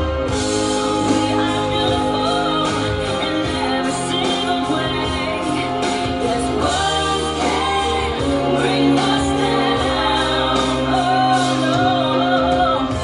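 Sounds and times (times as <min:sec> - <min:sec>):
song with singer: 0:00.0 - 0:13.0.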